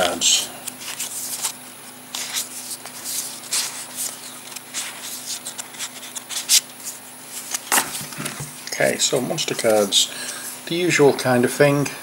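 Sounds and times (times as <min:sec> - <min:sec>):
cards rustling and flicking: 0:00.2 - 0:10.4.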